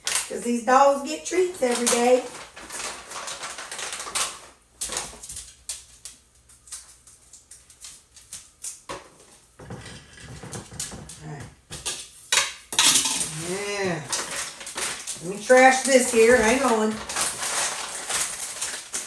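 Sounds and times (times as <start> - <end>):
plastic bag rustling: 0.0 - 11.1, 13.0 - 19.0.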